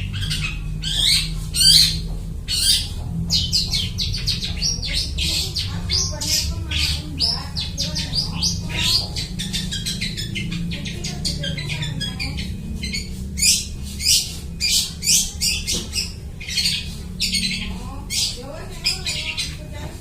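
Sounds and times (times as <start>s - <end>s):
bird singing chattering song: 0.0s - 20.0s
steady low hum: 0.0s - 20.0s.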